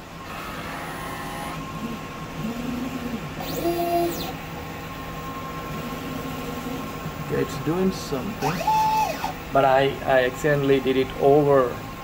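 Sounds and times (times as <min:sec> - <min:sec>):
printer humming: 0:00.0 - 0:12.0
printhead motor whining: 0:00.2 - 0:10.0.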